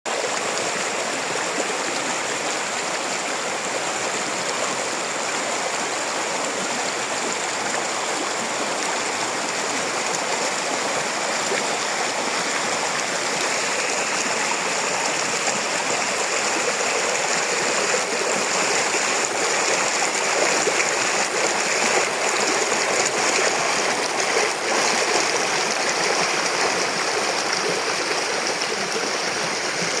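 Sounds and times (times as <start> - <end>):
flowing water rushing: 0.1 - 30.0.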